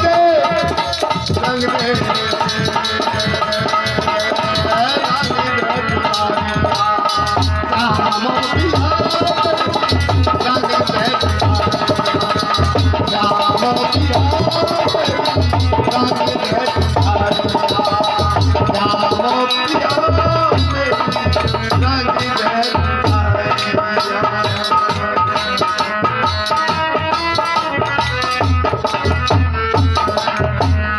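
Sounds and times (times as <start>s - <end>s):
hand drum beating: 0.0s - 30.9s.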